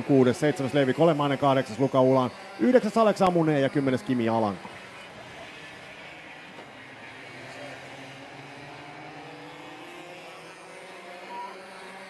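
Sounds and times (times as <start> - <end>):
kart engines buzzing: 0.0 - 12.0.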